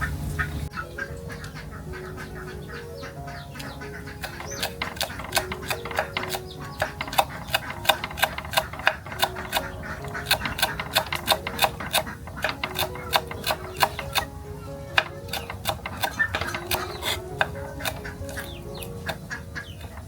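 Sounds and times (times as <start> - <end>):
soft background melody: 0.0 - 20.0.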